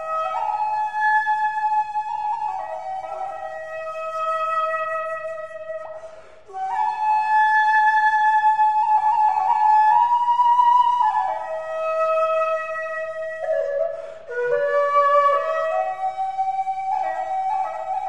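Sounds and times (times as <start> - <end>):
solo flute playing slow notes: 0.0 - 18.0.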